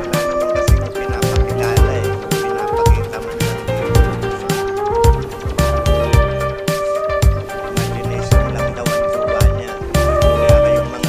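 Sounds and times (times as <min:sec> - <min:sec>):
pop music with guitar and drums: 0:00.0 - 0:11.0.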